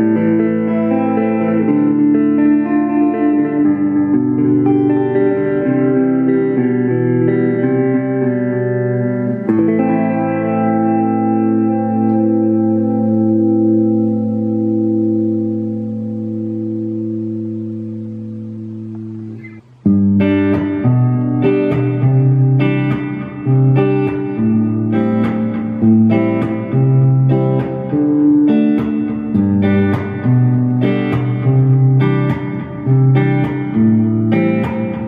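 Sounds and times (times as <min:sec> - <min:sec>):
clean electric guitar chords: 0:00.0 - 0:35.0.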